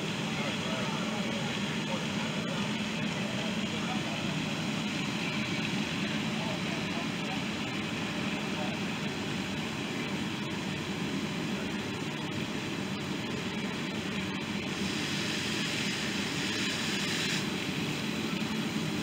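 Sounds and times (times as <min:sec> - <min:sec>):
fire truck engine and pump: 0:00.0 - 0:19.0
water spraying hiss: 0:00.0 - 0:19.0.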